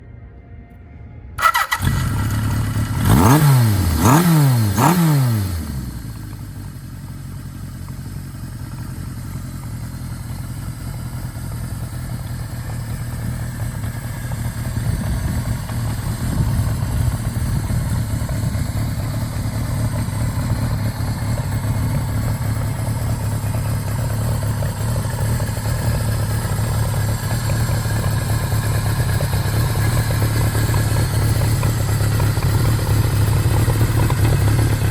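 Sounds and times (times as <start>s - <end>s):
motorcycle engine revving and idling: 1.4s - 34.9s.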